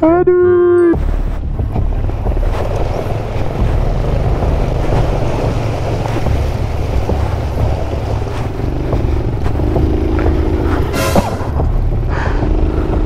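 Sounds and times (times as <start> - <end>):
water splashing: 1.0 - 13.0
wind rumbling on microphone: 1.0 - 13.0.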